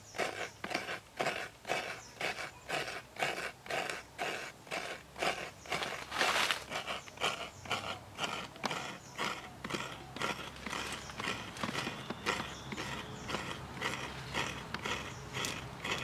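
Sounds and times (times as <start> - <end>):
coconut rasping on grater blade: 0.0 - 16.0.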